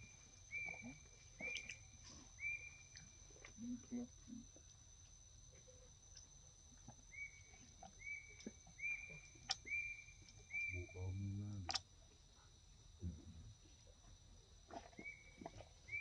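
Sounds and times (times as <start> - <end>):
high-pitched insect whine: 0.0 - 16.0.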